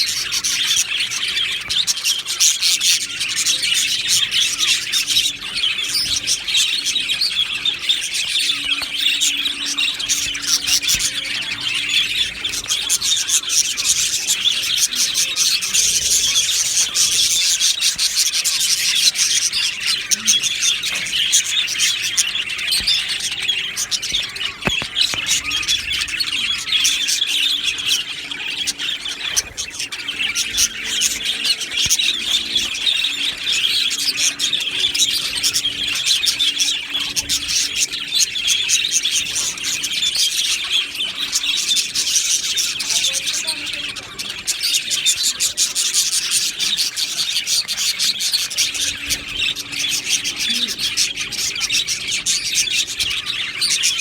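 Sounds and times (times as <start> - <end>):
flock of budgerigars chirping: 0.0 - 54.0.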